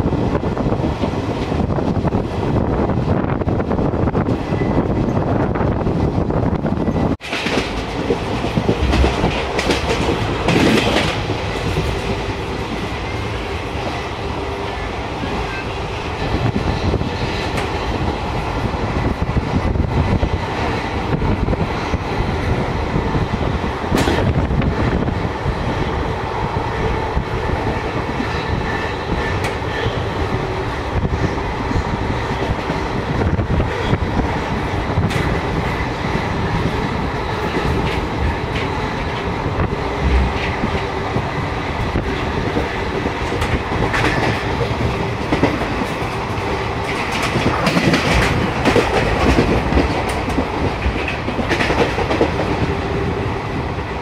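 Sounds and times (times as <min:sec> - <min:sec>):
clickety-clack over rails: 0:00.0 - 0:54.0
train wheels rumbling on rails: 0:00.0 - 0:54.0.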